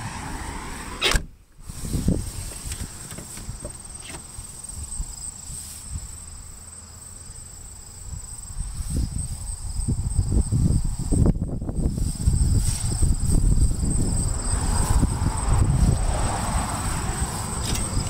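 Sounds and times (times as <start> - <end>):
low rumbling wind noise: 0.0 - 18.0
insects trilling: 1.8 - 18.0.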